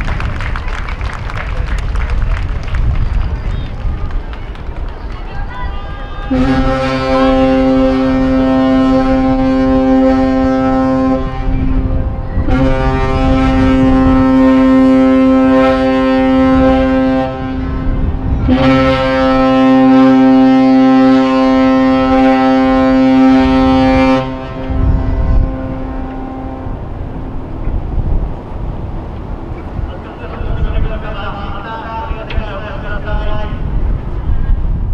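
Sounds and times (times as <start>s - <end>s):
ship's horn blasts: 5.9s - 34.1s.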